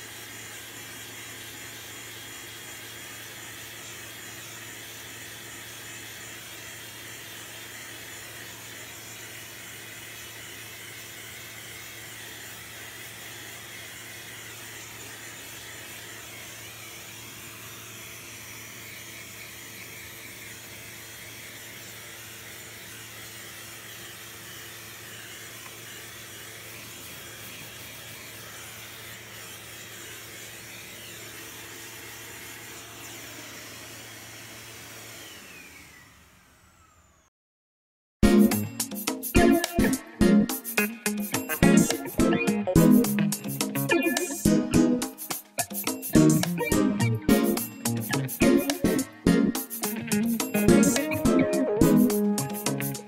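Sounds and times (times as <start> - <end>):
vacuum cleaner running: 0.0 - 37.3, 38.2 - 53.0.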